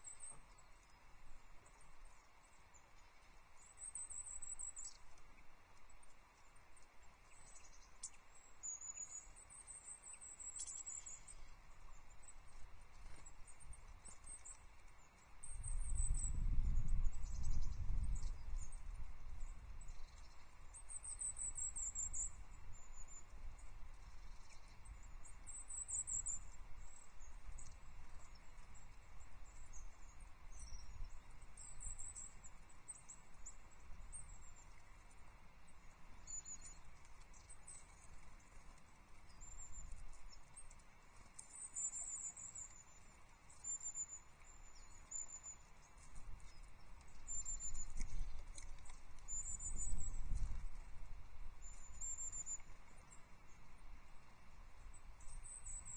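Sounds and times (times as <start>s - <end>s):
songbirds giving high thin calls: 0.0s - 50.9s, 51.5s - 53.9s.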